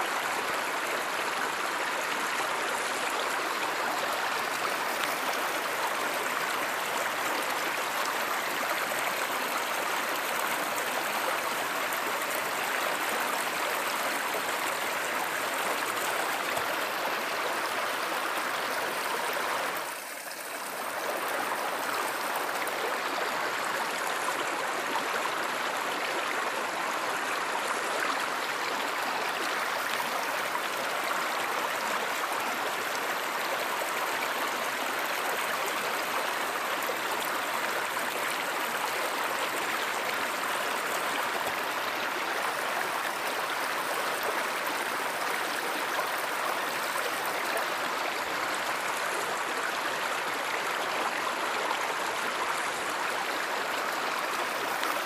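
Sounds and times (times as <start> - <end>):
flowing river rushing: 0.0 - 55.0.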